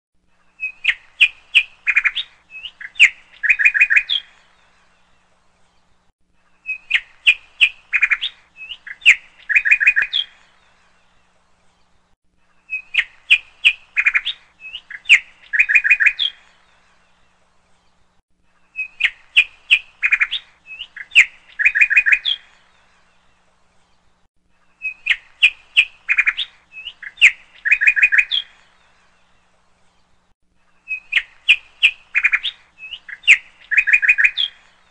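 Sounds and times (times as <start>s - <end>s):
bird song chirps and trills: 0.3s - 34.9s.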